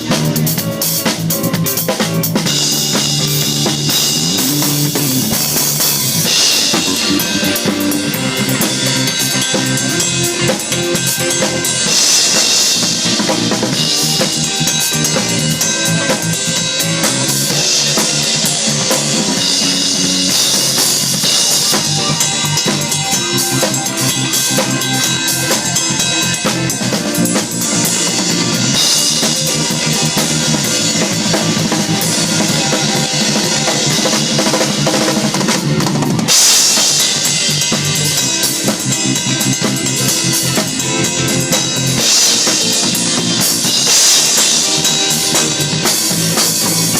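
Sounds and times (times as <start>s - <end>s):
bass drum: 0.0s - 46.9s
sustained pitched instruments: 2.3s - 46.9s
cymbals: 2.4s - 46.9s.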